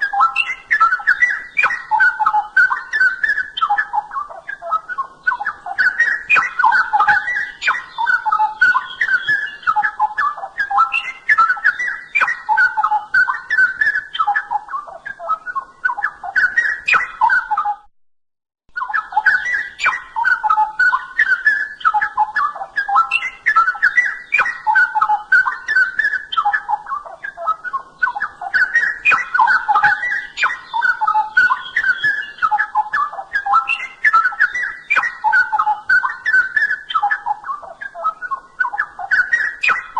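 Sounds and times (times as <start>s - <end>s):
bird singing bubbling whistles: 0.0s - 17.9s, 18.7s - 39.9s.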